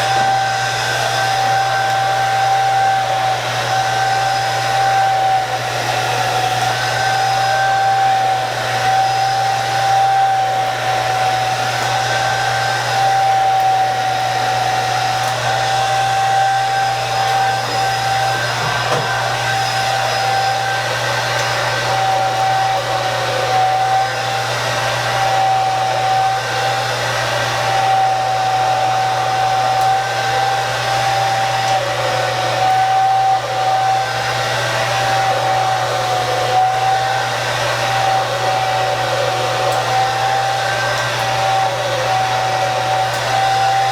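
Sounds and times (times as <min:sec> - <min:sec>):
hair dryer running: 0:00.0 - 0:43.9.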